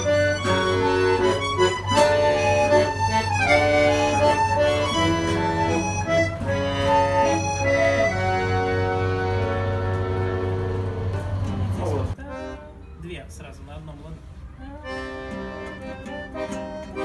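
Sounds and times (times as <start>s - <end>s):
accordion: 0.0s - 17.0s.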